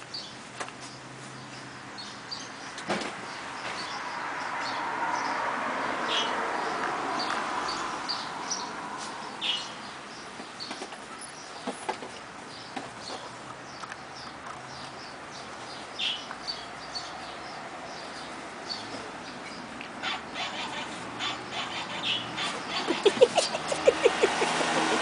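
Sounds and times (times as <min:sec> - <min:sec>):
small birds chirping: 0:00.0 - 0:05.4, 0:06.0 - 0:25.0.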